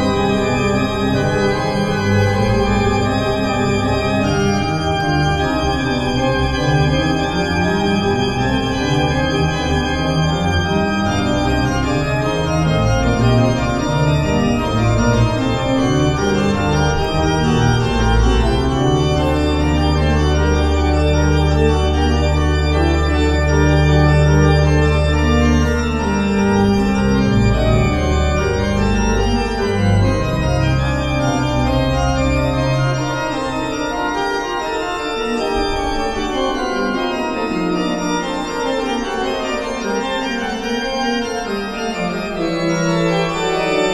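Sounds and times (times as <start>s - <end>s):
pipe organ playing: 0.0s - 43.9s.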